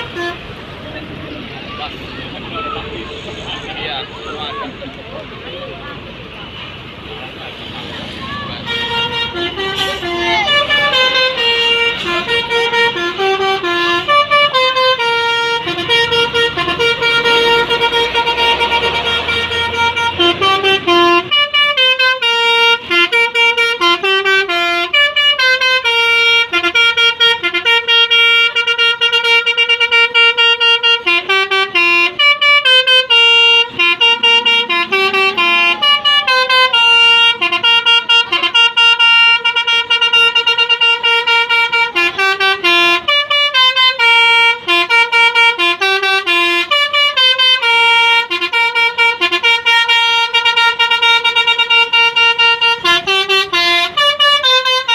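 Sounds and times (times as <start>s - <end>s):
musical bus air horn melody: 0.0s - 0.7s, 8.3s - 54.9s
bus engine noise: 0.0s - 54.9s.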